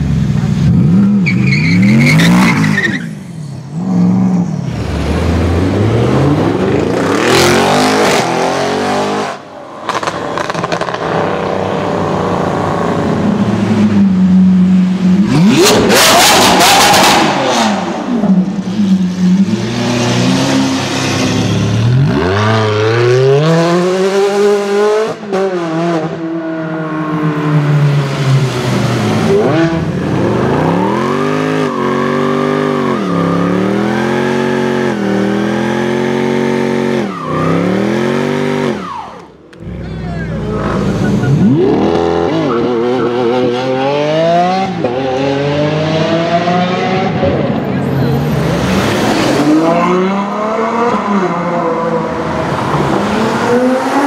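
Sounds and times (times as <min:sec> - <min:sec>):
supercar engines revving: 0:00.0 - 0:54.0.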